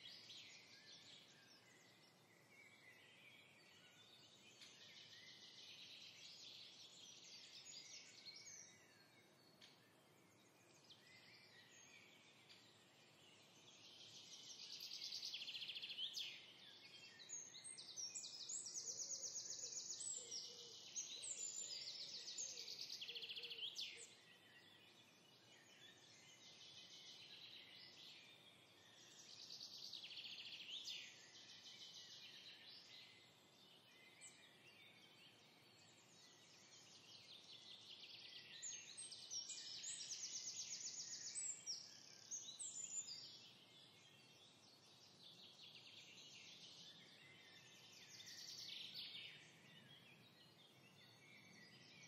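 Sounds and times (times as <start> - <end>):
faint birdsong: 0.0 - 52.0.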